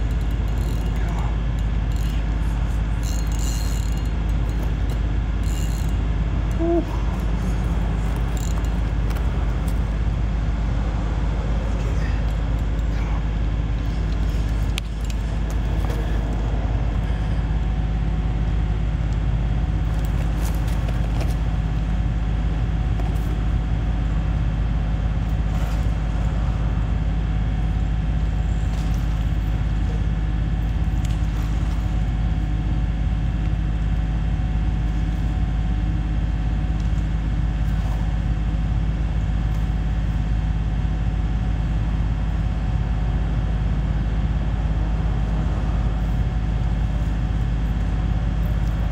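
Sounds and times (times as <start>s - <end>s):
low rumble of road traffic: 0.0s - 48.9s.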